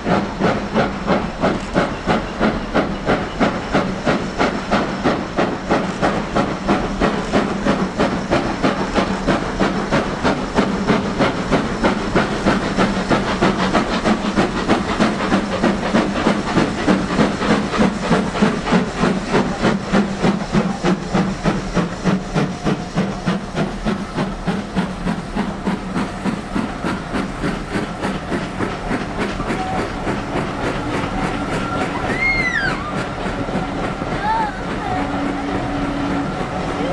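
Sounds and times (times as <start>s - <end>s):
steam hiss: 0.0s - 36.9s
steam locomotive exhaust beats: 0.0s - 36.9s.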